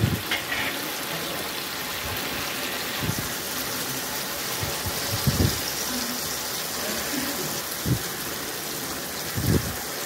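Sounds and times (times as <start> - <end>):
masala sizzling in hot oil: 0.0 - 10.0.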